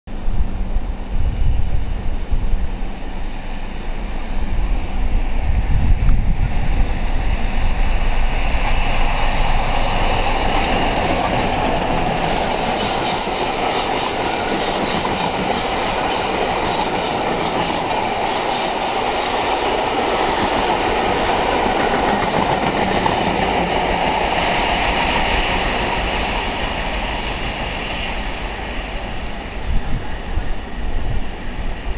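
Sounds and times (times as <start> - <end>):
train coaches running on rails: 0.1 - 31.9.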